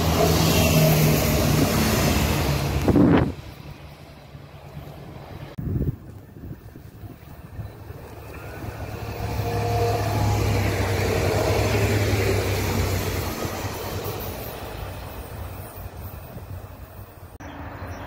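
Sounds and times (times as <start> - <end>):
wheel-on-rail noise: 0.0 - 17.4
railcar engine hum: 0.0 - 18.0.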